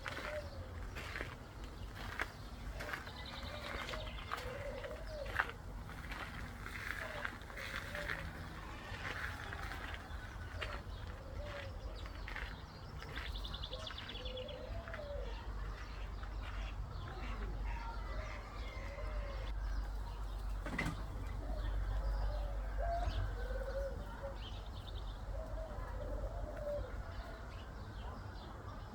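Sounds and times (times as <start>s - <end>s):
soft low bird calls: 0.0s - 28.9s.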